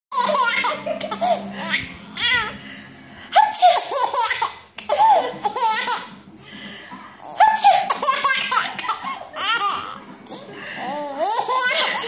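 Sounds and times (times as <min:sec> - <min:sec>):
baby giggling: 0:00.1 - 0:02.6, 0:03.4 - 0:06.2, 0:07.2 - 0:12.0.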